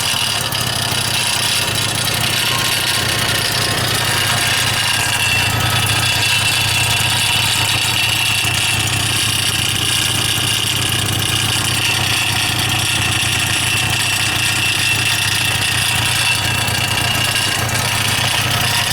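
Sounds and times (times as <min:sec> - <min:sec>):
scooter engine idling: 0:00.0 - 0:18.9.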